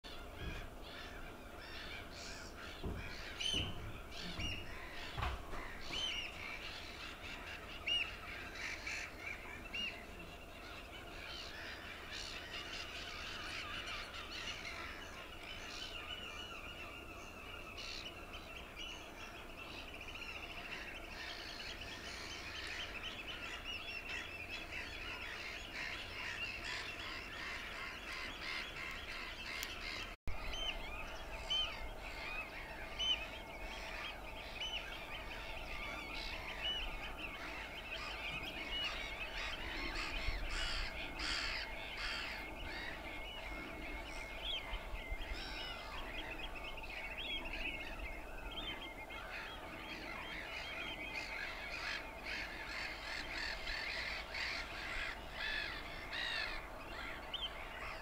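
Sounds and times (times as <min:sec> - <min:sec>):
wetland birds calling: 0:00.1 - 0:58.0.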